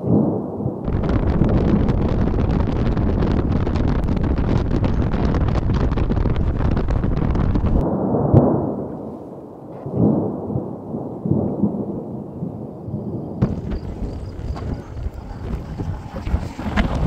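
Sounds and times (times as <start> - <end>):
thunder clap: 0.0 - 9.1, 9.8 - 17.0
wind buffeting microphone: 0.0 - 17.0
low rolling thunder rumbles: 0.1 - 17.0.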